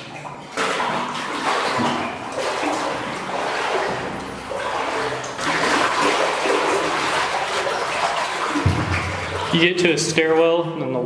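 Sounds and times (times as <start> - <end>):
water sloshing from wading: 0.0 - 11.0.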